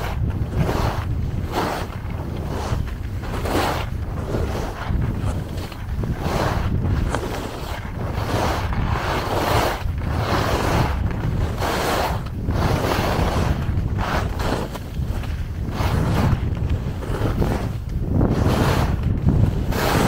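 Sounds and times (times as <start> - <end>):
skis scraping on snow: 0.0 - 20.0
wind buffeting microphone: 0.0 - 20.0.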